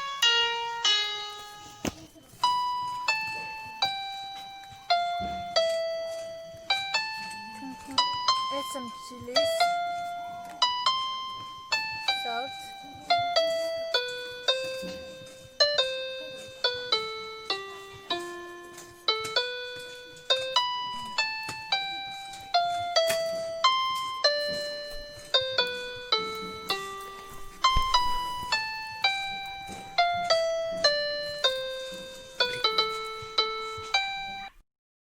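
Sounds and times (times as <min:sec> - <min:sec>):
simple piano melody: 0:00.0 - 0:34.6.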